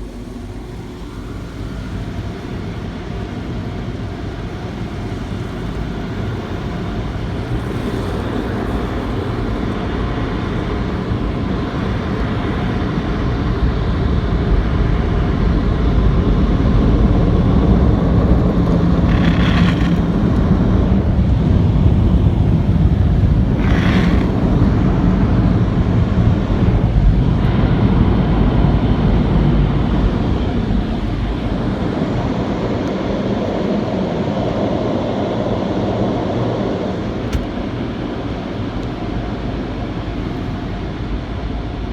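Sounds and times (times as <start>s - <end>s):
car wash machinery rumbling: 0.0s - 41.9s.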